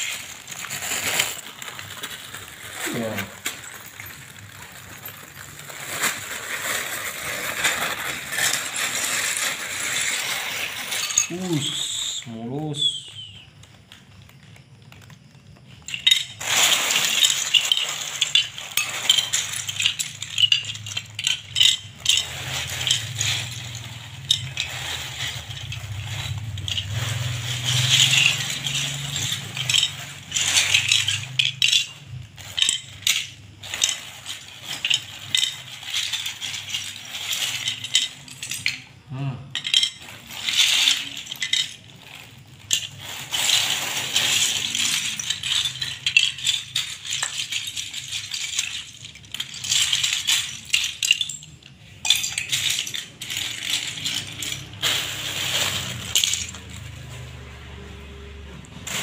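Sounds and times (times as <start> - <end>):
plastic bricks rattling and clicking: 0.0 - 57.8.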